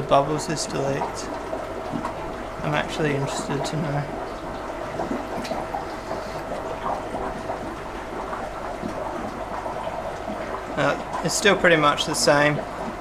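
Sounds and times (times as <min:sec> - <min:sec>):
steady hum: 0:00.0 - 0:13.0
water bubbling and gurgling: 0:00.0 - 0:13.0.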